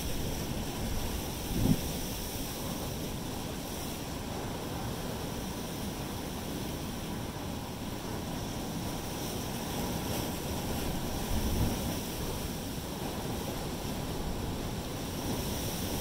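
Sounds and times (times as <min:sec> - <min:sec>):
surf rushing through rock channel: 0:00.0 - 0:16.0.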